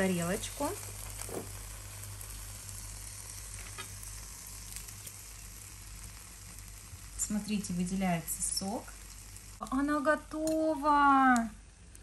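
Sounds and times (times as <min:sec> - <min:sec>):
chicken sizzling hiss: 0:00.0 - 0:09.6.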